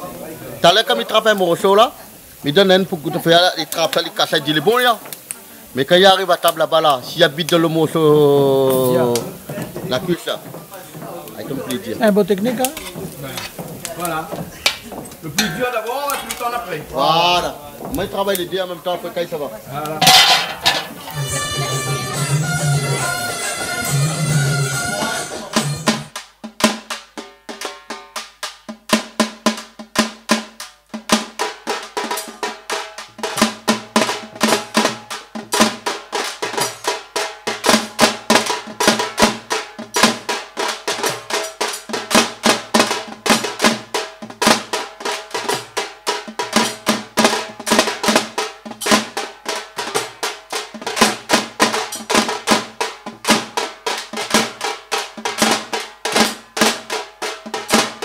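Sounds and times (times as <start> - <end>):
frame drums playing fast beat: 0.6 - 58.0.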